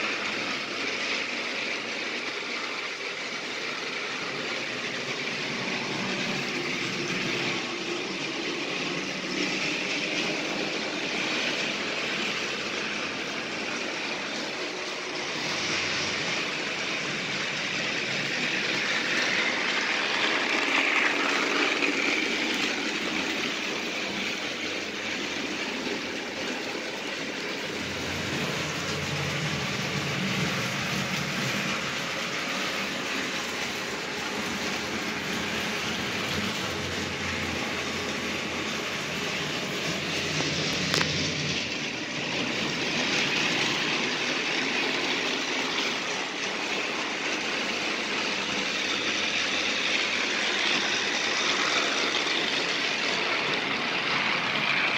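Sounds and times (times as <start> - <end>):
toy train motors whirring: 0.0 - 54.9
wheels rolling on plastic track: 0.0 - 54.9.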